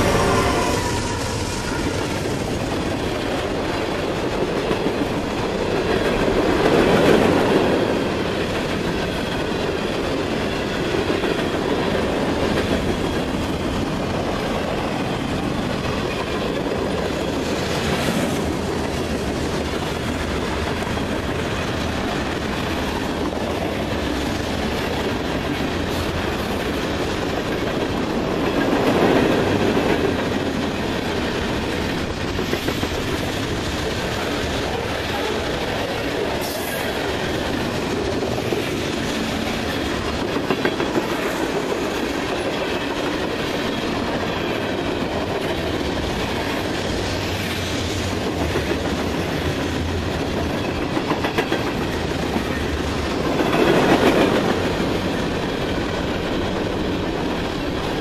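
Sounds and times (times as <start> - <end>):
train wheels clattering over rail joints: 1.1 - 58.0.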